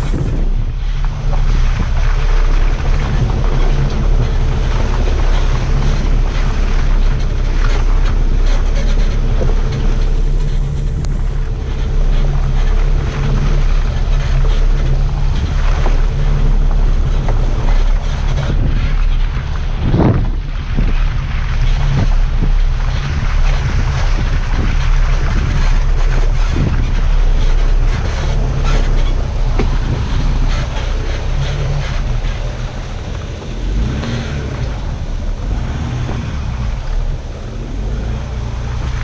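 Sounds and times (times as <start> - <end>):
tyres on muddy track: 0.0 - 39.0
vehicle engine drone: 0.0 - 39.0
wind rushing over camera: 0.0 - 39.0.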